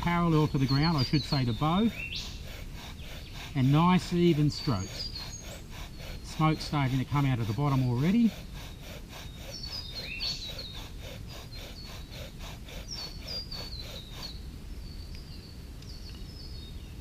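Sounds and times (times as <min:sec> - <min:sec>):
birds chirping and whistling: 0:00.0 - 0:17.0.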